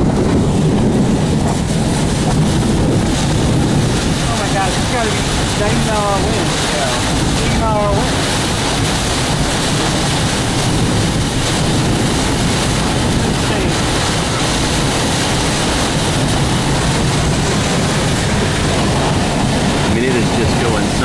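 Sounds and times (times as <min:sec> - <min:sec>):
wind driving rain on vehicle: 0:00.0 - 0:21.0.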